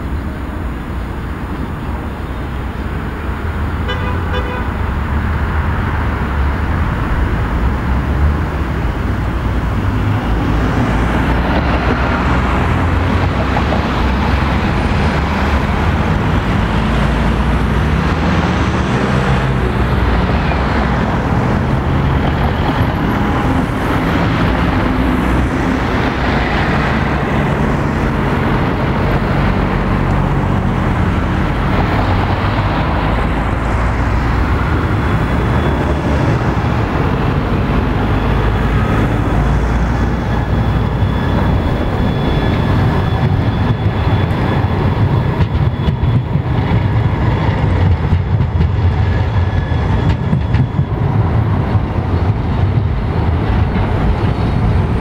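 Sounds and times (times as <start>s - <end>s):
cars driving past: 0.0s - 55.0s.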